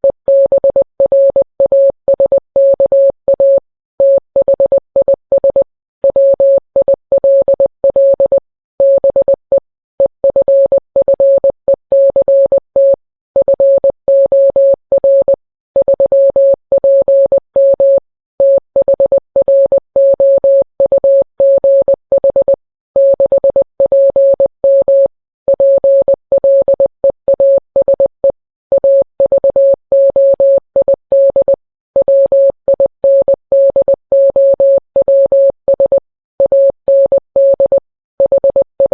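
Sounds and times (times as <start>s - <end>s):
morse code beeps: 0.0s - 38.9s.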